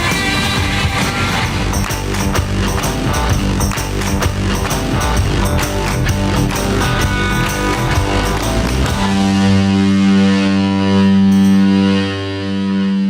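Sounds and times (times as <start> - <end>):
rock music with drum beat: 0.0 - 12.7.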